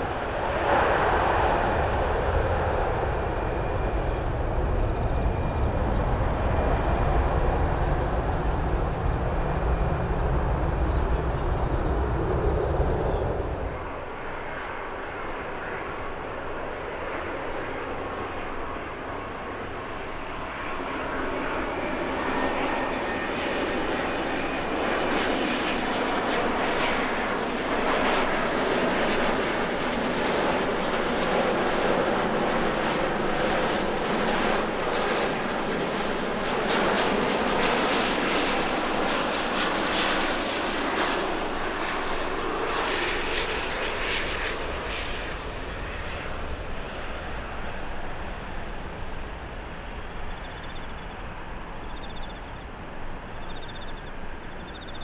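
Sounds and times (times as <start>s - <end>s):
airliner jet rumble: 0.0s - 55.0s.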